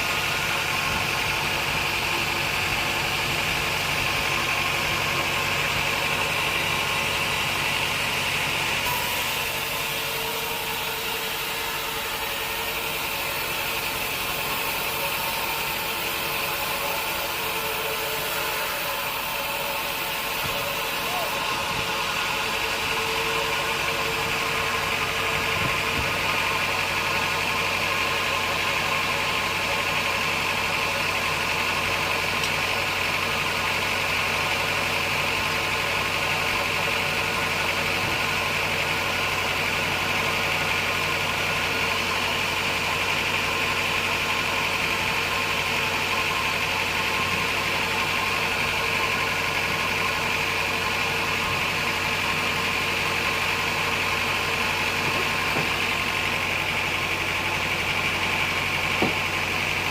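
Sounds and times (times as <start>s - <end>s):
sawmill machinery drone: 0.0s - 59.9s.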